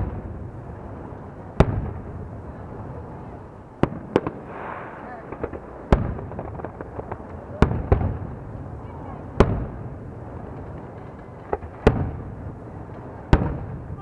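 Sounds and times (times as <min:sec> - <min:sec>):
firework pops and crackles: 0:00.0 - 0:14.0
firework shells booming: 0:00.0 - 0:14.0.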